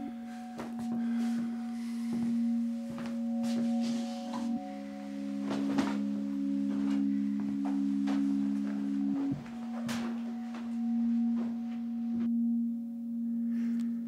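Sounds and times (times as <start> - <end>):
low sustained drone of held notes: 0.0 - 14.0
footsteps: 0.5 - 12.3.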